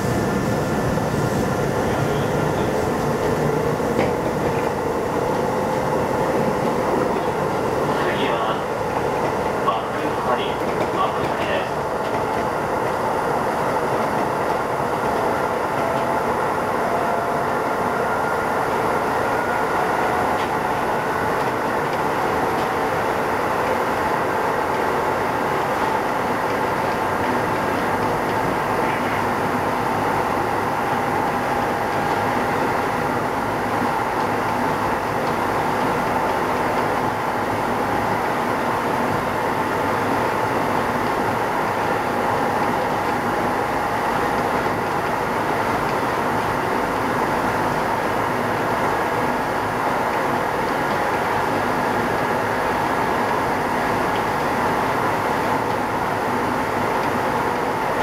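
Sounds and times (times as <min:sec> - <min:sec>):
steady motor whine: 0:00.0 - 0:58.0
train wheels rumbling on rails: 0:00.0 - 0:58.0.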